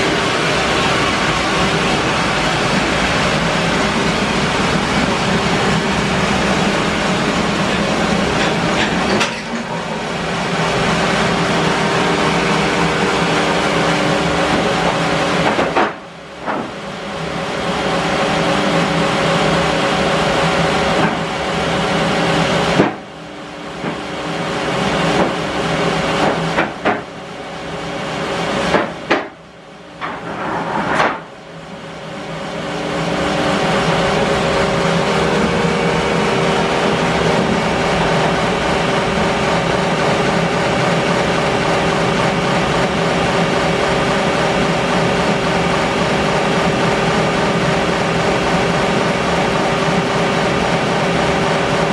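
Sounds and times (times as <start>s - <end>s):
bandsaw mill running: 0.0s - 29.3s, 32.1s - 51.9s.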